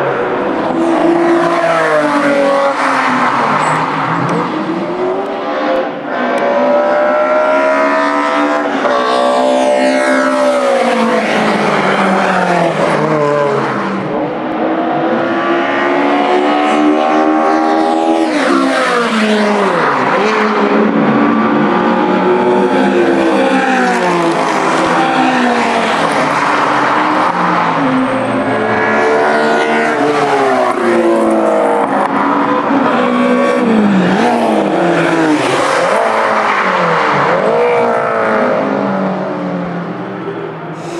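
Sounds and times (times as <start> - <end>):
race cars passing at speed: 0.0 - 40.9.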